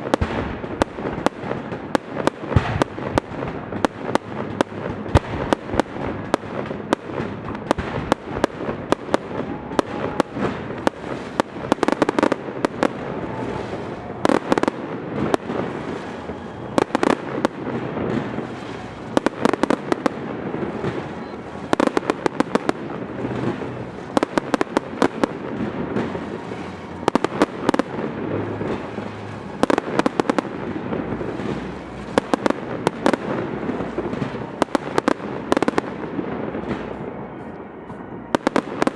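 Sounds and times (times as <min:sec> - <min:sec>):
sharp cracks and bangs: 0:00.0 - 0:37.2
continuous fireworks crackling: 0:00.0 - 0:38.9.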